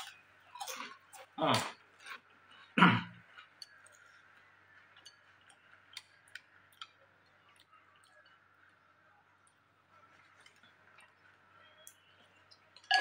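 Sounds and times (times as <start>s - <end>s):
chewing crunchy crackers: 0.0s - 12.9s.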